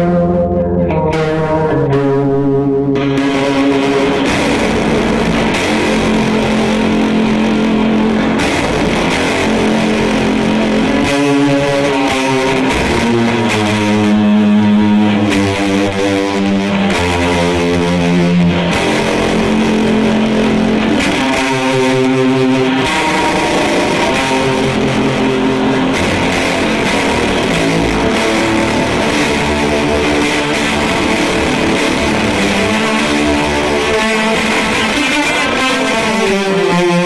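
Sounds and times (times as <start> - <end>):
electric guitar with chorus effect: 0.0 - 37.0.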